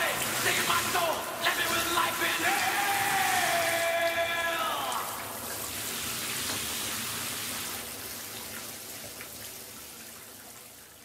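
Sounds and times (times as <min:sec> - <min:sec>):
shower water spraying: 0:00.0 - 0:09.2.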